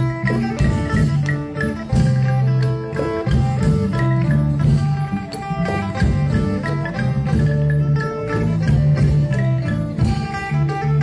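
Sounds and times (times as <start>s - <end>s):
percussion: 0.0s - 11.0s
struck and plucked melody: 0.0s - 11.0s.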